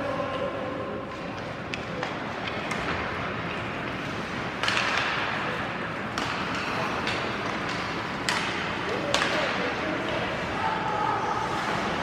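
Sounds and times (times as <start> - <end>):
arena noise: 0.0 - 12.0
hockey sticks and puck clacking: 0.0 - 12.0
skates scraping ice: 0.0 - 12.0.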